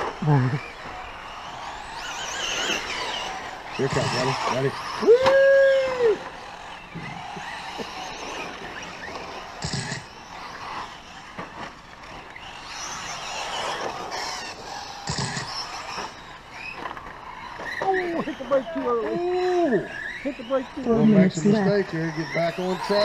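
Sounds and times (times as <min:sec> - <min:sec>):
rc truck motors whining: 0:00.0 - 0:23.0.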